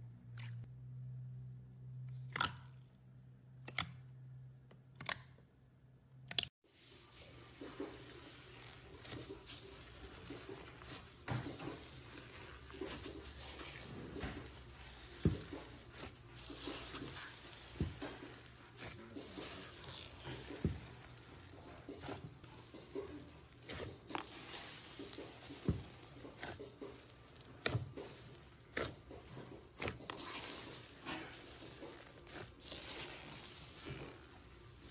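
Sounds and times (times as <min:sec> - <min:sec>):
slime squishing: 0:06.8 - 0:34.9.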